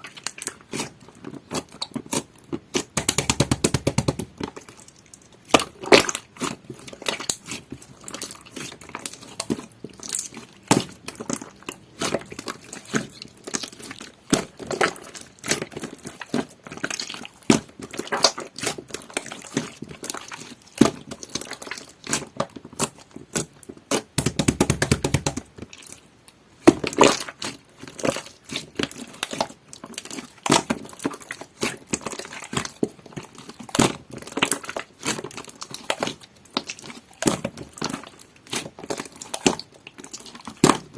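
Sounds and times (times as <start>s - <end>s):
slime squelching by hand: 0.0s - 40.9s.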